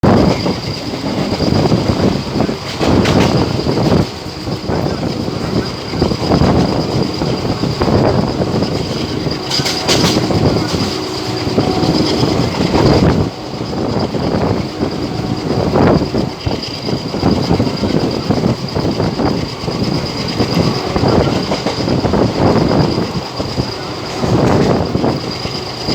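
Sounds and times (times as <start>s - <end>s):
train wheels clattering over rail joints: 0.0s - 25.9s
faint wheel squeal: 0.1s - 25.9s.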